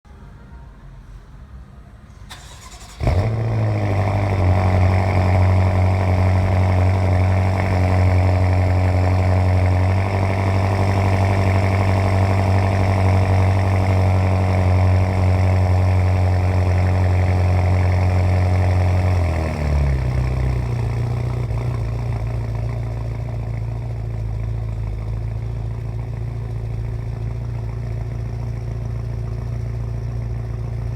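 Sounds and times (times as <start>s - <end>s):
car engine starting and idling: 2.0s - 30.9s.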